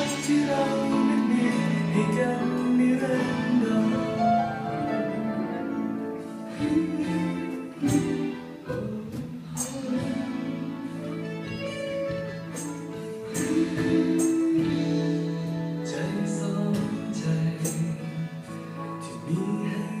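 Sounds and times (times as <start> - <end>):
live band song over speakers: 0.0 - 20.0.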